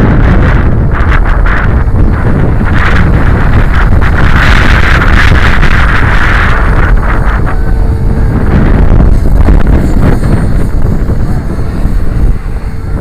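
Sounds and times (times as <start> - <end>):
helicopter rotors whining: 0.0 - 13.0
wind buffeting microphone: 0.0 - 13.0.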